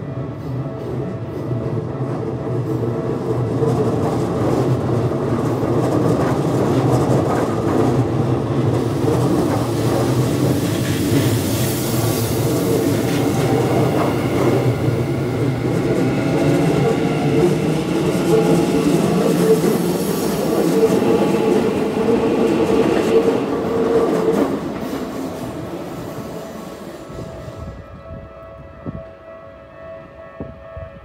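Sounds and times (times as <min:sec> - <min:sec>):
train wheel and rail noise: 0:00.0 - 0:31.0.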